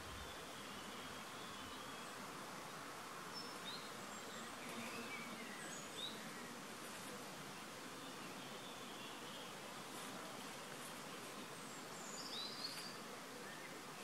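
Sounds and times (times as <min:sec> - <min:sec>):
soft outdoor hiss: 0:00.0 - 0:14.0.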